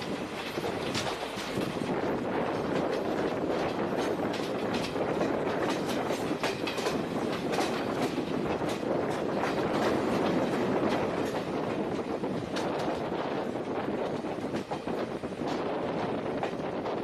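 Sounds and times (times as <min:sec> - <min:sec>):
train rumble: 0:00.0 - 0:17.0
train wheels clacking over rail joints: 0:00.0 - 0:17.0.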